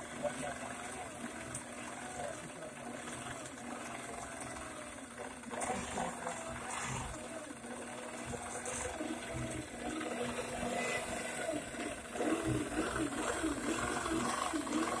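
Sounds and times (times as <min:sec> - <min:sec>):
quilting machine motor hum: 0:00.0 - 0:15.0.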